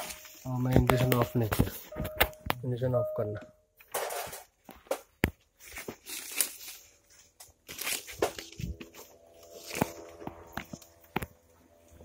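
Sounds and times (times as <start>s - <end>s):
leaves and hands rustling on phone: 0.0s - 2.4s, 4.1s - 12.0s.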